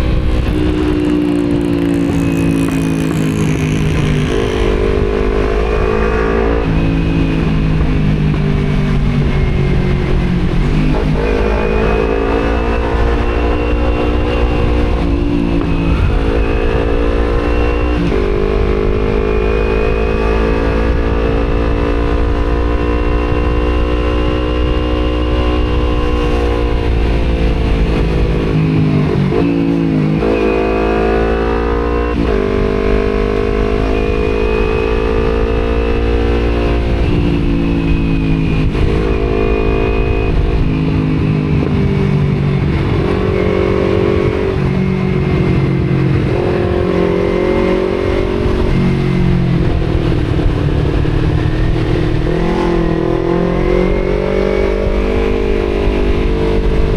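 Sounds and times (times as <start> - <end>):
motorcycle engine revving: 0.0 - 56.9
wind noise: 0.0 - 56.9.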